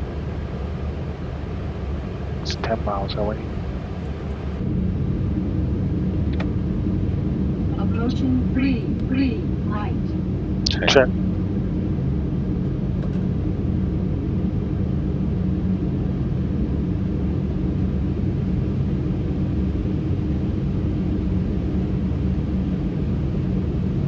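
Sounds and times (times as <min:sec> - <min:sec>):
faint steady hum: 0:00.0 - 0:12.7, 0:13.4 - 0:24.0
low rumble of airflow and engines: 0:00.0 - 0:24.0.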